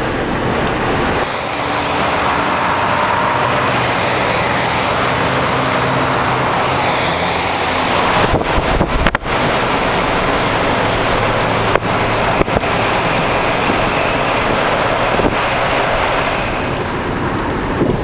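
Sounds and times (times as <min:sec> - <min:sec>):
car road and wind rush: 0:00.0 - 0:18.0
low engine hum: 0:00.0 - 0:18.0.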